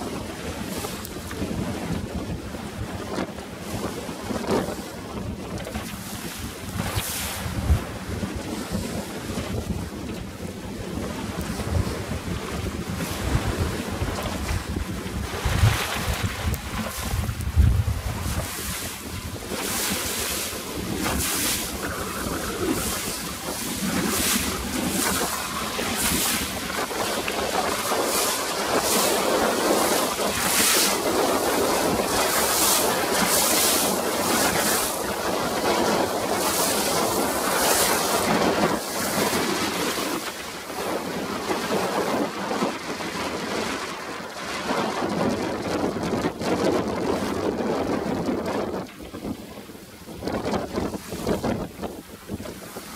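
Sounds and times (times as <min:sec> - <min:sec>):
strong wind buffeting microphone: 0:00.0 - 0:52.9
waves splashing: 0:00.0 - 0:52.9.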